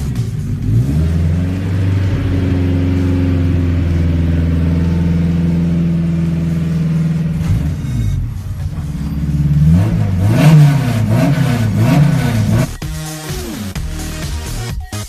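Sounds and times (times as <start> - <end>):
car engine running: 0.0 - 14.8.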